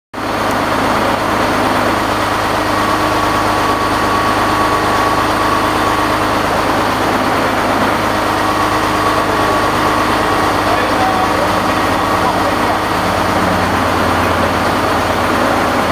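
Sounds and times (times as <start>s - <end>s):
radial aircraft engine running: 0.2s - 15.9s.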